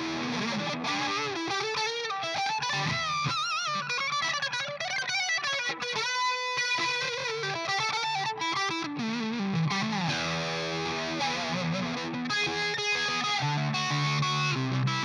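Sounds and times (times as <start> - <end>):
distorted electric guitar lead: 0.0 - 15.0.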